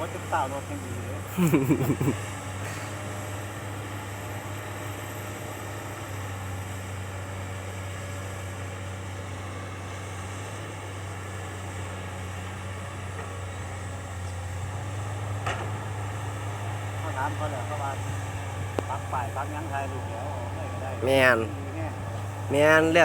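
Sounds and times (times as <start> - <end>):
heavy machine engine droning: 0.0 - 23.0.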